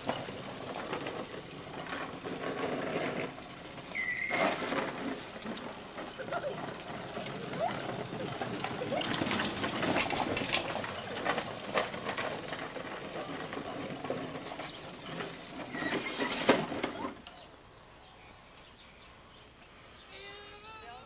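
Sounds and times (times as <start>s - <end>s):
plastic wheels rolling on asphalt: 0.0s - 21.0s.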